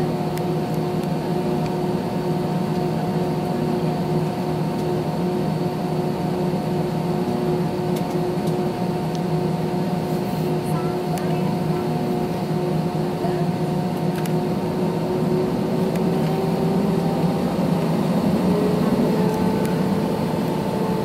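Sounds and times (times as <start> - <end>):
airliner engine hum: 0.0 - 21.0.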